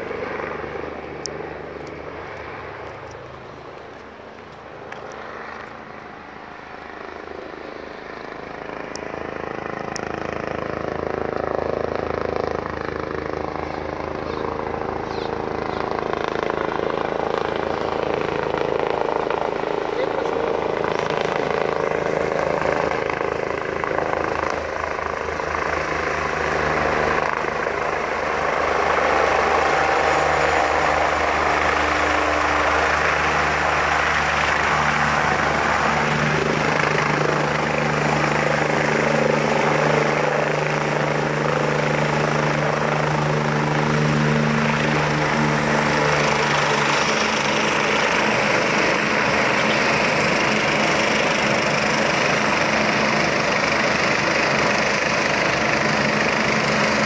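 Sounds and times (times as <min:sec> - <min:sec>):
helicopter rotor beat: 0:00.0 - 0:57.0
high turbine whine: 0:00.0 - 0:57.0.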